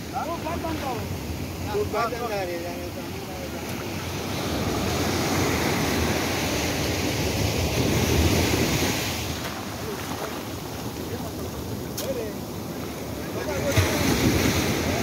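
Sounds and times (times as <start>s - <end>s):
wave rushing over sand: 0.0s - 15.0s.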